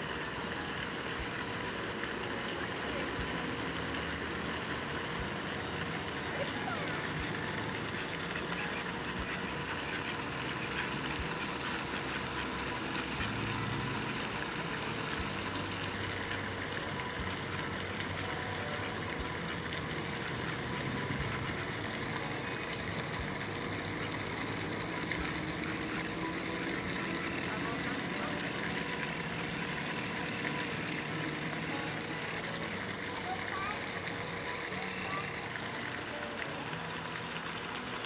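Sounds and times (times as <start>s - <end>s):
outdoor background noise: 0.0s - 38.0s.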